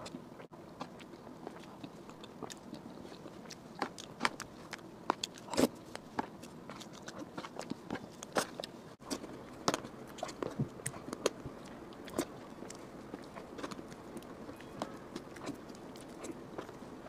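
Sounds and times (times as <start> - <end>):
close-miked eating sounds: 0.0 - 17.0
soft chewing: 0.0 - 17.0.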